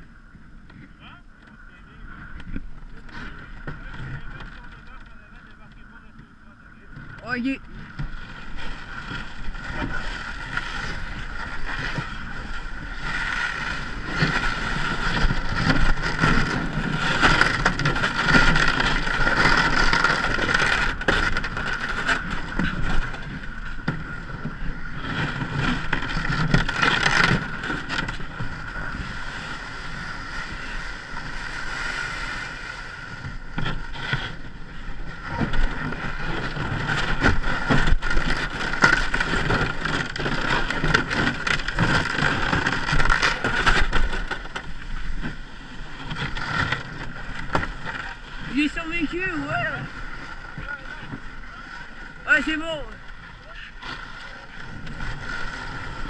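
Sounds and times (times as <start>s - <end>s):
wind on microphone: 1.7s - 56.0s
hull rushing through water and ice: 6.7s - 56.0s.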